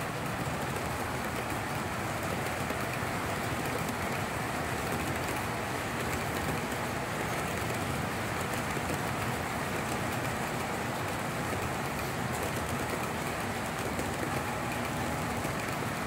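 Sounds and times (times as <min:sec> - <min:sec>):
model train wheels rumbling: 0:00.0 - 0:16.0.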